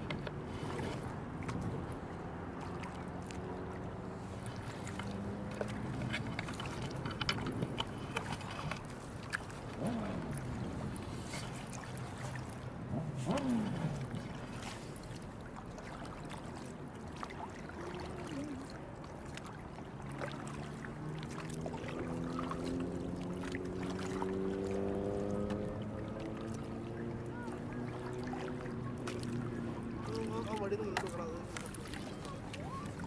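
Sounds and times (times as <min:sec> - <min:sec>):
paddle splashing in water: 0:00.0 - 0:33.0.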